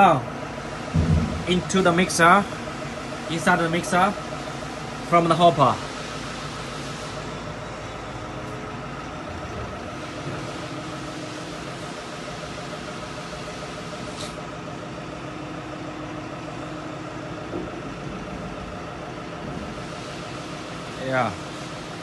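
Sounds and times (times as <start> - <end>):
machinery humming: 0.0 - 22.0.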